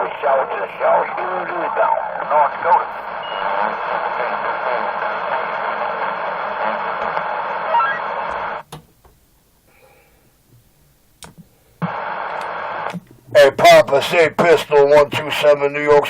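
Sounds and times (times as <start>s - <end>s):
radio static hiss: 0.0s - 8.7s, 11.5s - 16.0s
radio click: 0.0s - 8.9s, 11.2s - 15.3s.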